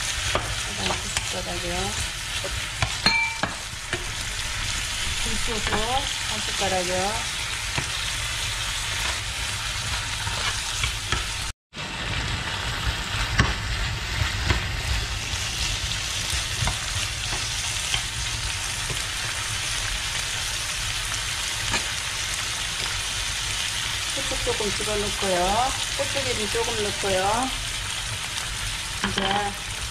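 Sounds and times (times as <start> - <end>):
food sizzling in a pan: 0.0 - 29.9.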